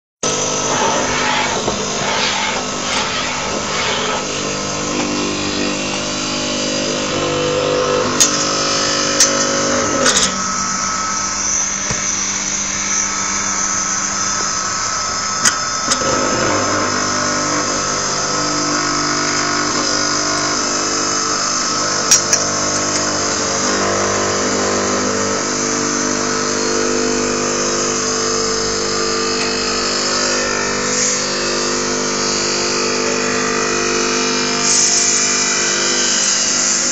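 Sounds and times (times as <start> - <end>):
grinding mill motor whine: 0.2 - 36.9.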